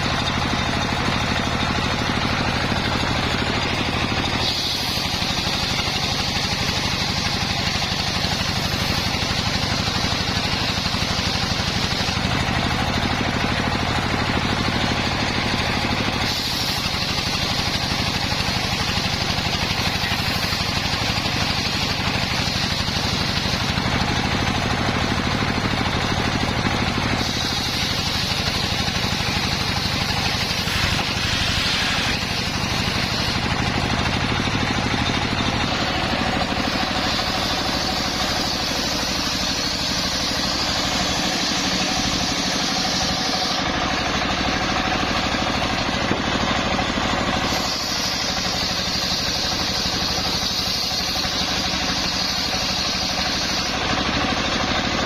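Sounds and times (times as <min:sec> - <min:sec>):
engine-driven circular saw cutting wood: 0:00.0 - 0:55.0.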